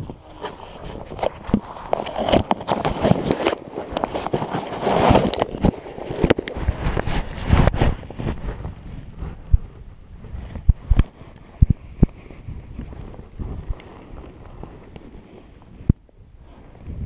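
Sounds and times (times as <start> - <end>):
fabric rubbing on camera housing: 0.0 - 15.6.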